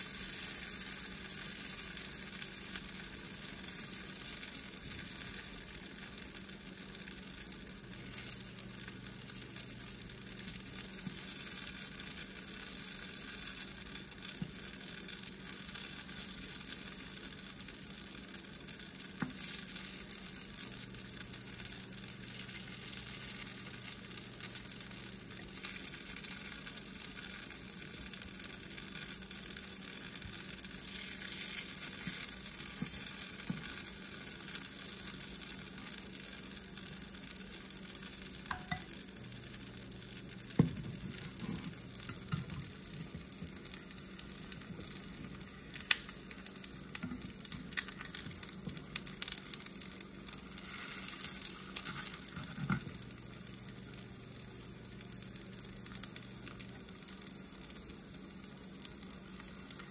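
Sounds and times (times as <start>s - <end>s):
batter sizzling in oil: 0.0s - 59.9s.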